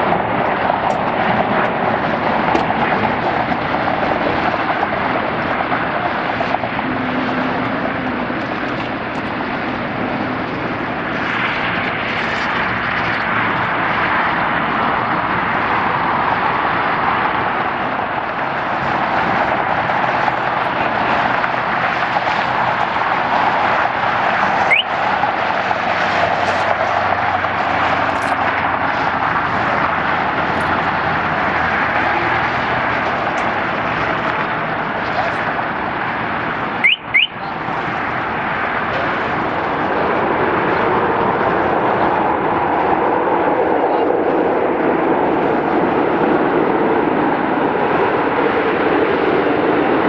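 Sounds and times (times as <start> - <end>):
jet engines taxiing rush: 0.0 - 50.0.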